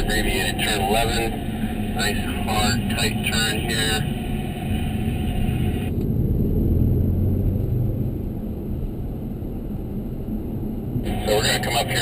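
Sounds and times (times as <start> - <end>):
car engine rumble in cabin: 0.0 - 12.0.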